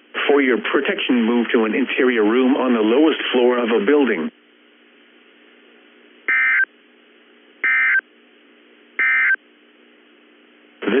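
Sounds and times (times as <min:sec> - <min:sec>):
faint steady radio hum: 0:00.0 - 0:08.0, 0:08.9 - 0:11.0.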